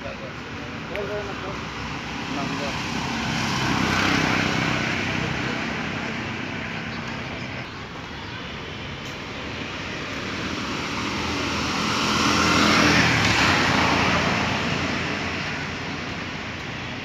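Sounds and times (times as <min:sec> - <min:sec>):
vehicle passing by: 0:01.3 - 0:07.6, 0:09.2 - 0:17.0.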